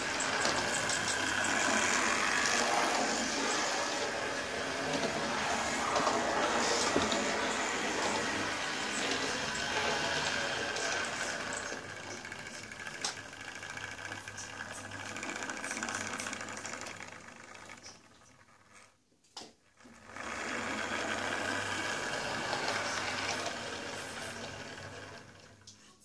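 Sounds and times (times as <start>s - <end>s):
wheels rattling over rails: 0.0s - 18.9s, 19.8s - 25.7s
model train motor whirring: 0.0s - 19.0s, 19.8s - 25.7s.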